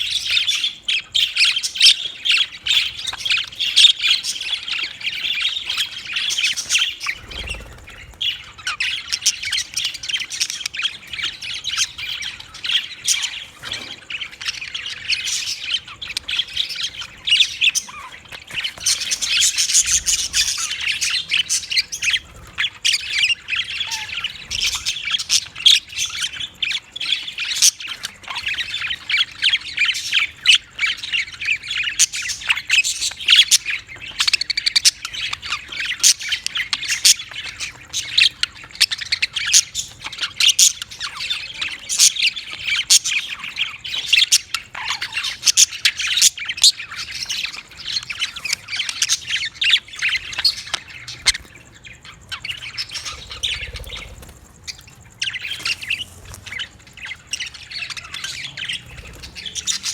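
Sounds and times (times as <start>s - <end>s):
budgerigars chattering and squawking: 0.0s - 59.9s.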